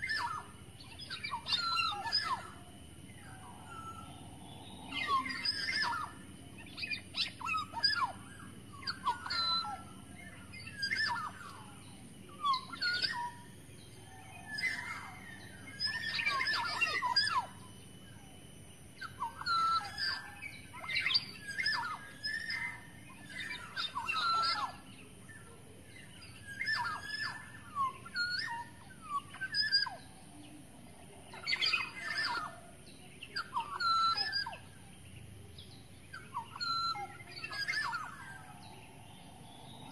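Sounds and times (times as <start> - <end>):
oriole whistling and chirping: 0.0 - 39.9.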